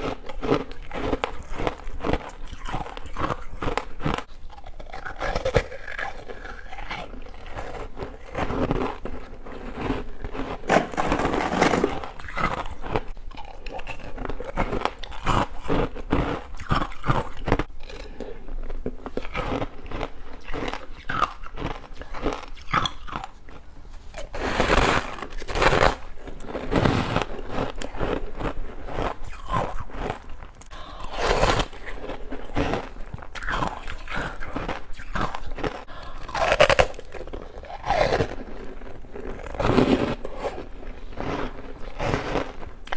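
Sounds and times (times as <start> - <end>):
person chewing crunchy ice: 0.0 - 42.9.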